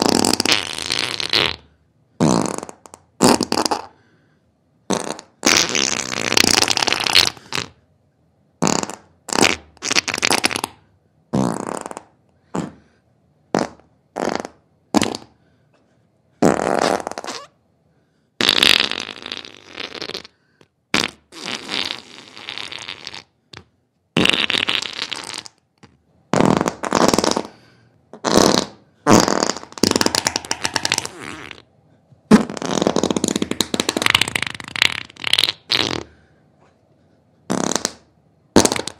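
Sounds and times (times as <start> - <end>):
farting: 0.0 - 4.0, 4.9 - 7.8, 8.6 - 12.9, 13.5 - 15.4, 16.4 - 17.6, 18.4 - 31.7, 32.3 - 36.2, 37.5 - 38.9.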